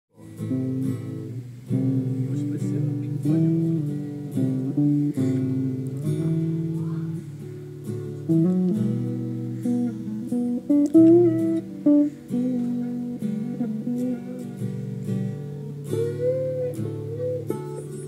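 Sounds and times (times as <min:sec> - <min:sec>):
guitars strumming chords: 0:00.1 - 0:18.0.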